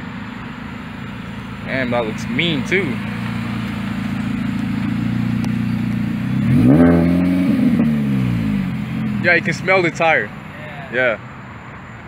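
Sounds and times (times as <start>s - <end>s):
car engine revving: 0.0s - 11.4s
car engine idling: 0.0s - 12.0s.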